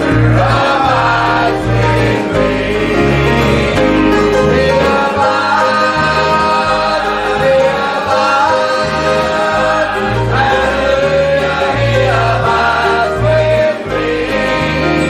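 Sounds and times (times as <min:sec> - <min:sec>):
choir singing gospel music: 0:00.0 - 0:15.0
steady bass line: 0:00.0 - 0:15.0.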